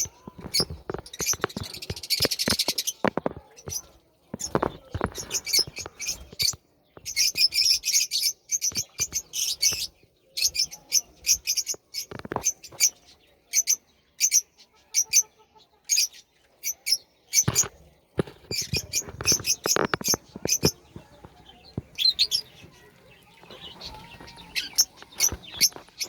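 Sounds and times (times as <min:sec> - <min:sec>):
budgerigars chirping: 0:00.0 - 0:26.0.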